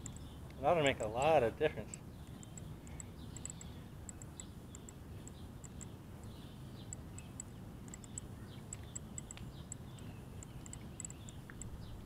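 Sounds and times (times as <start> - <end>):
sharp high ticks: 0.0 - 0.6, 1.2 - 12.0
distant birds chirping: 0.0 - 12.0.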